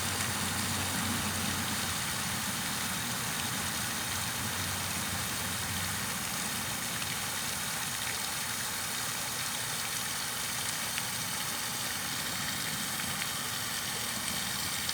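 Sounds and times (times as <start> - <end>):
white noise hiss: 0.0 - 14.9.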